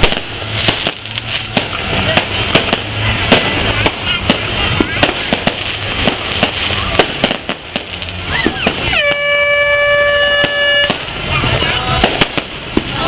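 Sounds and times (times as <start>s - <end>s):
crowd din: 0.0s - 13.0s
fireworks and firecrackers banging: 0.0s - 13.0s.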